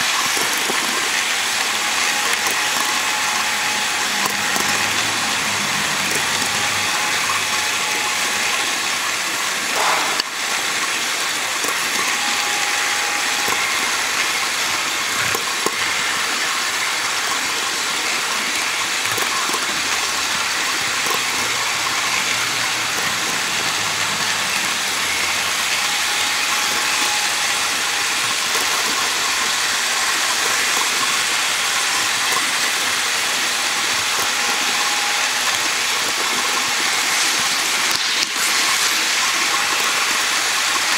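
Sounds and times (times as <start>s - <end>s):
model train cars rolling on track: 0.0s - 40.9s.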